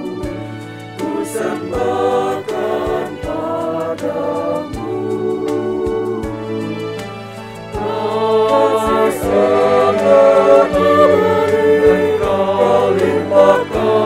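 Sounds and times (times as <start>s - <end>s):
choir singing in harmony: 0.0s - 14.0s
instrumental accompaniment: 0.0s - 14.0s.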